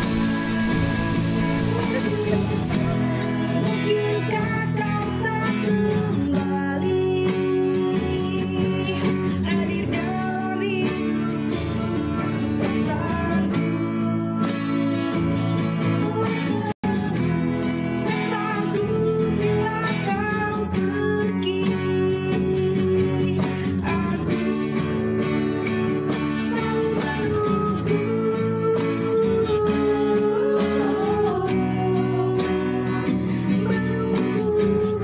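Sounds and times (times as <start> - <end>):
person singing: 0.0 - 35.0
plucked acoustic guitar: 0.0 - 35.0.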